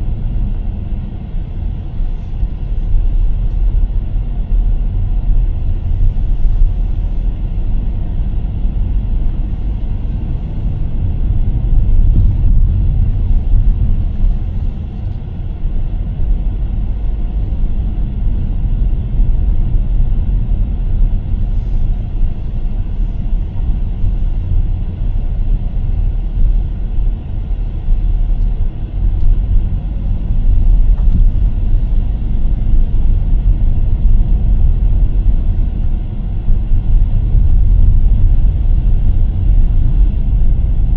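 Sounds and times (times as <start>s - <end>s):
car driving rumble: 0.0s - 40.9s.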